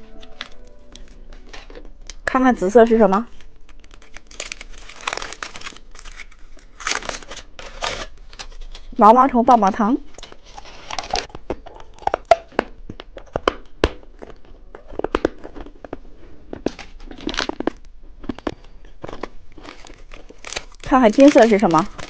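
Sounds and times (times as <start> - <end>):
candy wrapper crinkling: 0.0 - 9.0, 10.1 - 22.0.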